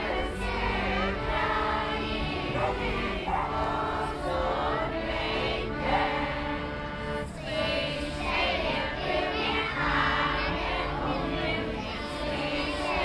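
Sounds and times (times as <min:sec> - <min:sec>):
children singing: 0:00.0 - 0:13.0
steady held notes: 0:00.0 - 0:13.0.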